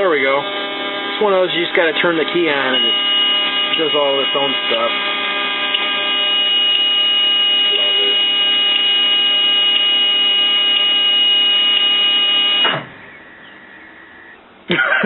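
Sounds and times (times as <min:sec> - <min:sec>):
electrical buzz: 0:00.0 - 0:15.0.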